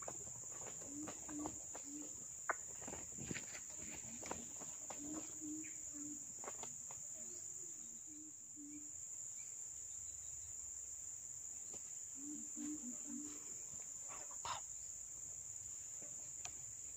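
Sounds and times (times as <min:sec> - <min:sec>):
high-pitched insect chorus: 0:00.0 - 0:16.9.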